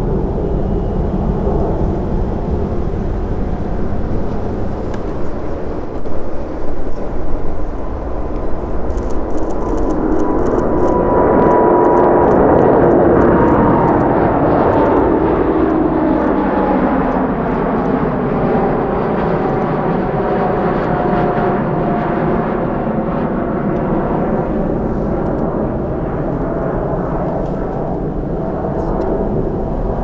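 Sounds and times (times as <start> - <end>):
jet airliner roar at takeoff: 0.0 - 30.0.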